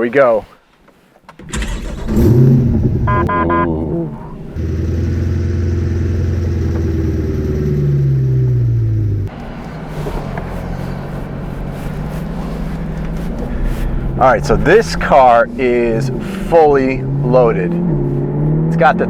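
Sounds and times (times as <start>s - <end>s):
car engine accelerating: 1.4s - 19.0s
road drone: 1.4s - 19.0s.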